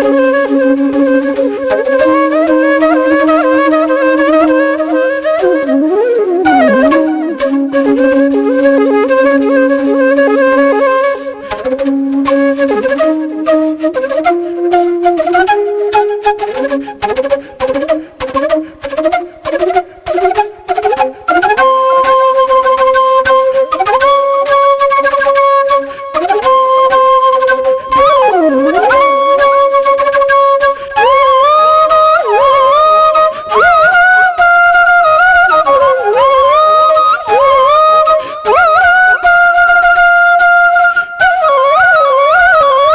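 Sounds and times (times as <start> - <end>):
flute melody: 0.0 - 42.9.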